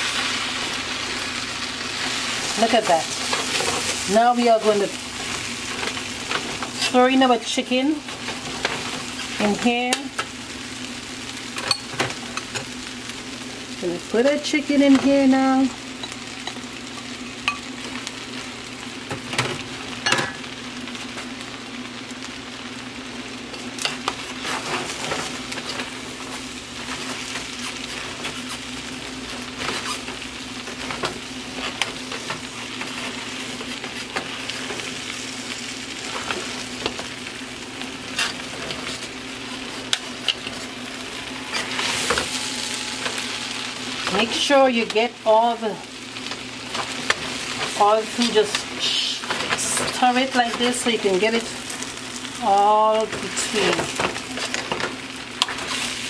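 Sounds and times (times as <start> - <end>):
food sizzling in a metal pot: 0.0 - 56.0.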